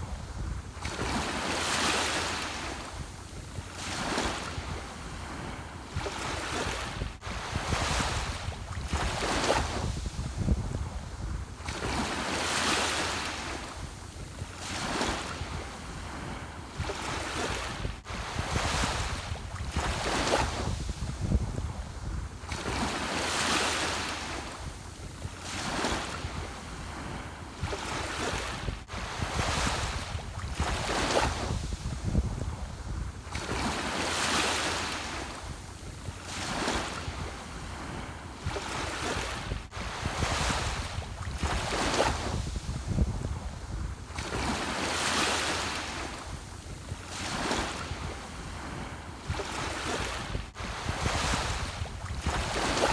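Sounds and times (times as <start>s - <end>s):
ocean waves breaking: 0.0s - 52.9s.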